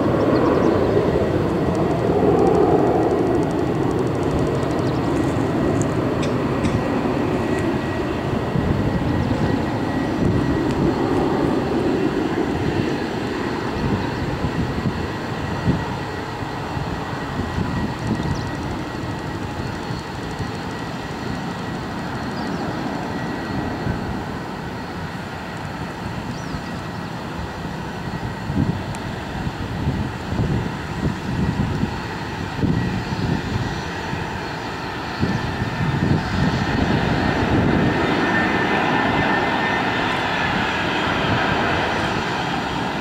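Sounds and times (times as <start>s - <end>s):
distant jet engine rumble: 0.0s - 43.0s.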